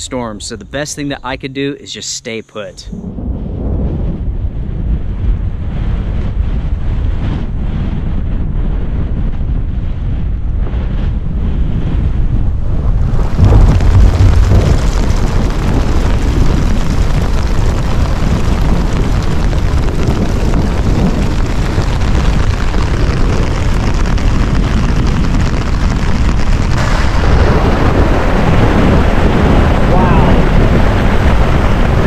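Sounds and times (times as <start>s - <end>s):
strong wind blowing: 2.8s - 32.0s
wind buffeting microphone: 2.8s - 32.0s.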